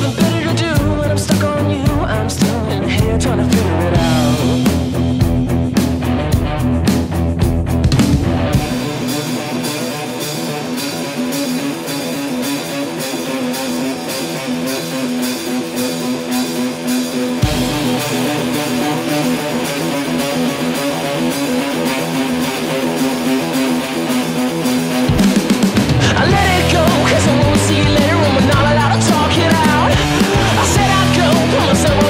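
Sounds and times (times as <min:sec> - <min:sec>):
rock music with electric guitar: 0:00.0 - 0:32.0.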